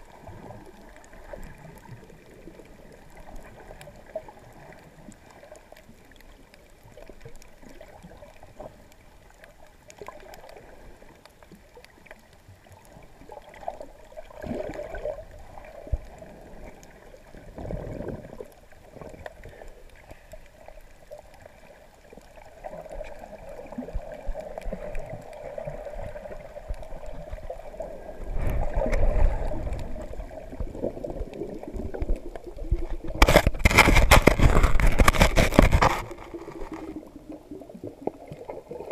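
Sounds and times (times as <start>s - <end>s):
underwater sloshing and gurgling: 0.0s - 38.9s.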